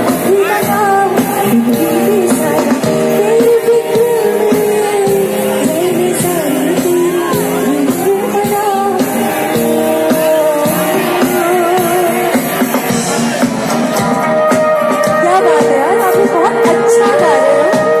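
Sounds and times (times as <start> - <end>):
loud live band with singing: 0.0 - 18.0.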